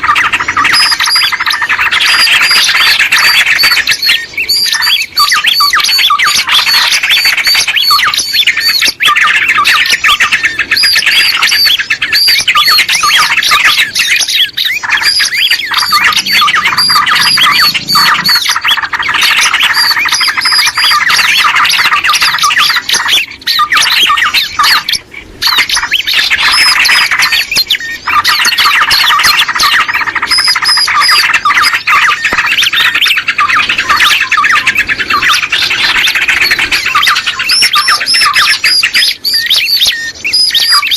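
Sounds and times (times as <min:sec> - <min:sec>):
small birds chattering: 0:00.0 - 0:40.9.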